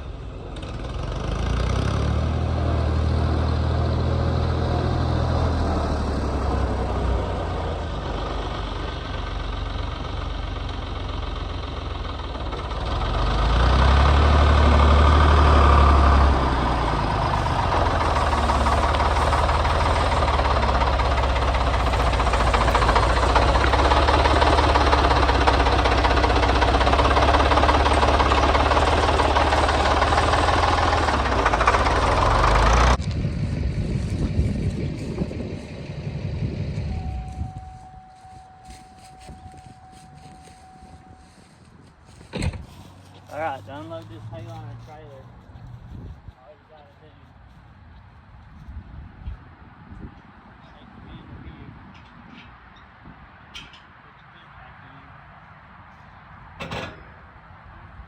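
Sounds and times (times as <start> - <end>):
diesel engine clattering: 0.0 - 48.6, 50.2 - 58.0.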